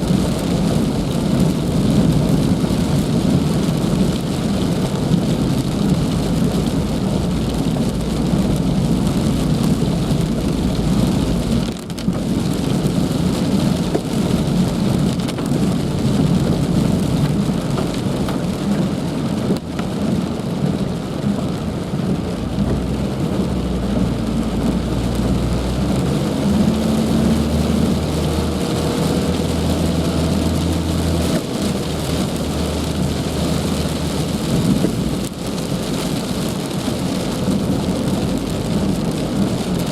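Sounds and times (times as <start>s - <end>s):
deep low rumble: 0.0s - 39.9s
heavy rain pouring: 0.0s - 39.9s.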